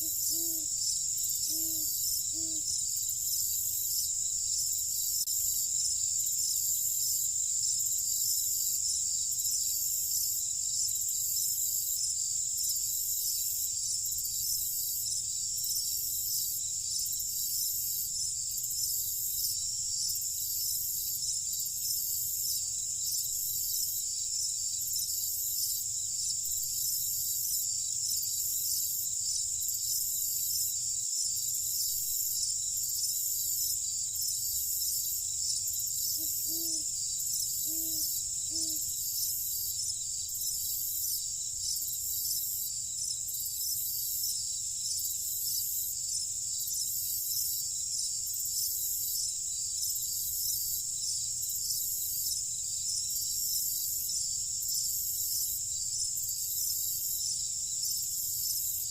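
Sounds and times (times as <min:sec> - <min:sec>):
crickets trilling: 0:00.0 - 0:58.9
high pulsing insect call: 0:00.0 - 0:58.9.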